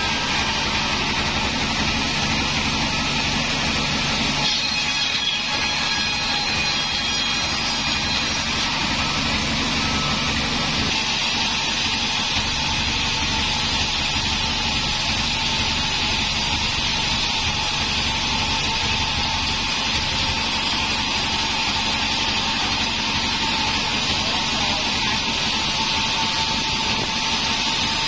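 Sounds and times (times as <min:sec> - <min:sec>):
band saw whirring: 0:00.0 - 0:28.0.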